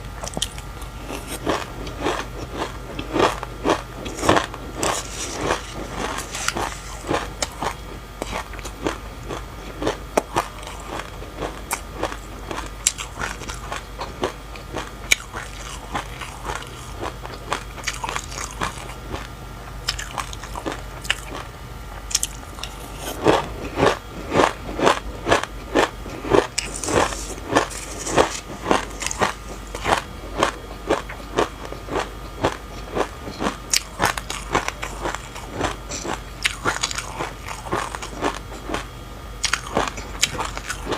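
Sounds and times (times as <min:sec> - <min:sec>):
crunchy chewing: 0:00.1 - 0:40.9.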